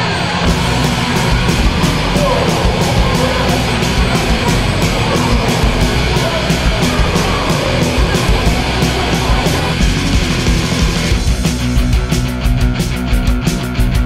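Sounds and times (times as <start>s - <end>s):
loud rock music: 0.0s - 14.0s
fast drum beat: 0.4s - 14.0s.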